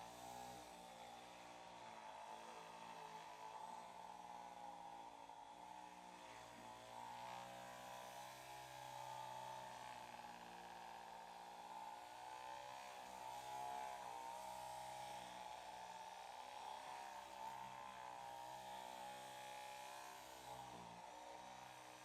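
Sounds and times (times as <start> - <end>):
massage machine buzzing: 0.0 - 22.0.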